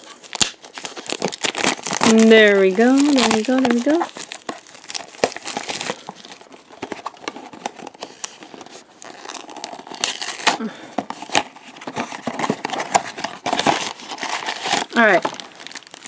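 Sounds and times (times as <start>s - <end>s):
cardboard box tearing: 0.0s - 16.0s
packaging crinkling: 0.0s - 16.0s.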